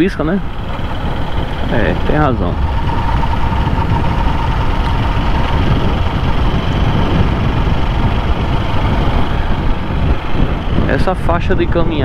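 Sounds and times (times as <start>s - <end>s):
motorcycle engine and wind rush: 0.0s - 12.0s.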